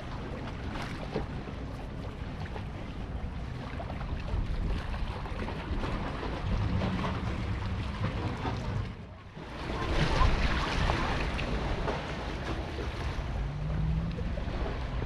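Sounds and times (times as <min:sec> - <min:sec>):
waves washing and surging: 0:00.0 - 0:15.0
wind buffeting microphone: 0:00.0 - 0:15.0.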